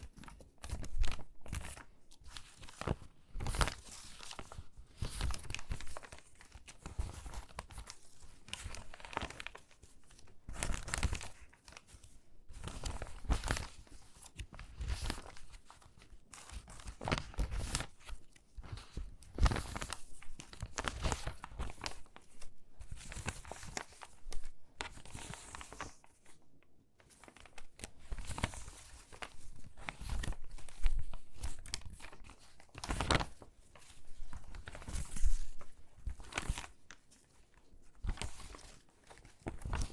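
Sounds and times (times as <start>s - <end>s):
paper crackling and rustling: 0.0s - 26.4s, 27.0s - 39.9s.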